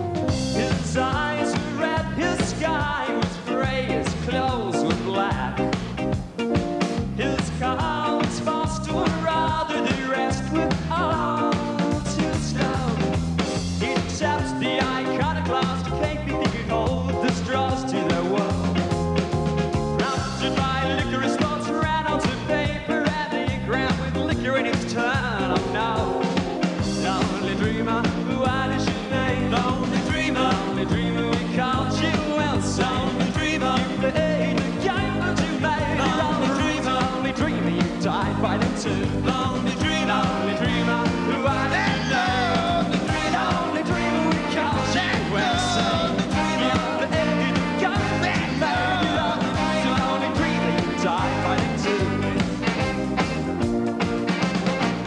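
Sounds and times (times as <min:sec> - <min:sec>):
rock song with drums and bass: 0:00.0 - 0:55.0.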